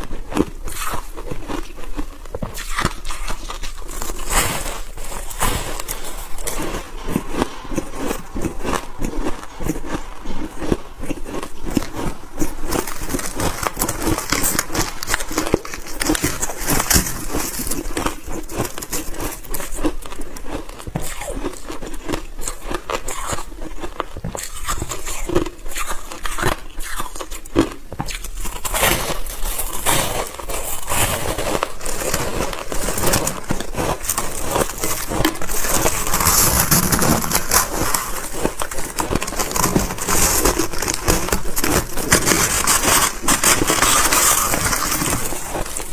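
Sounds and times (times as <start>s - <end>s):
chewing crunchy ice: 0.0s - 45.9s.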